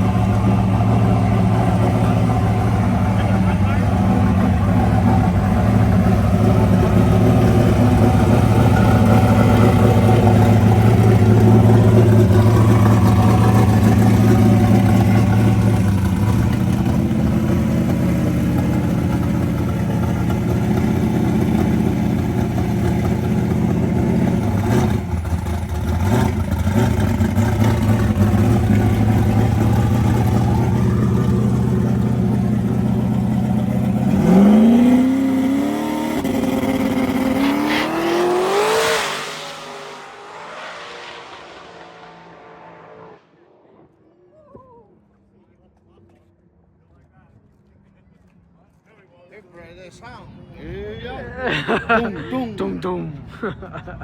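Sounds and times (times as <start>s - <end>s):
car engine idling: 0.0s - 43.3s.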